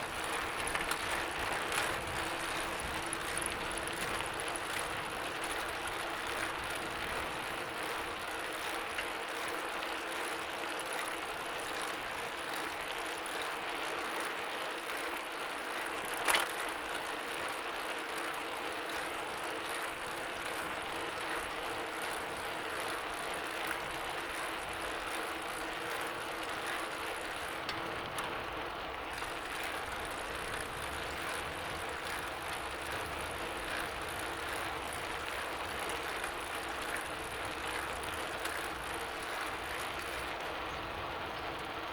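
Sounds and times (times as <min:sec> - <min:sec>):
bicycle drivetrain ticking: 0:00.0 - 0:41.9.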